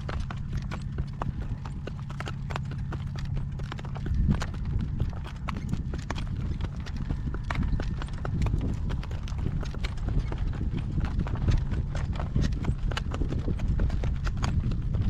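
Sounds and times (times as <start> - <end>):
horse hooves on rocky road: 0.0 - 15.0
low rumble: 0.0 - 15.0.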